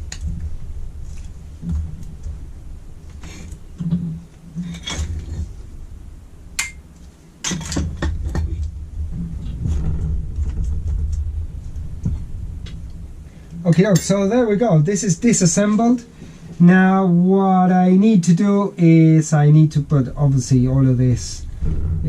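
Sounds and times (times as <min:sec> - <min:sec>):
low rumble: 0:00.0 - 0:17.9, 0:18.9 - 0:22.0.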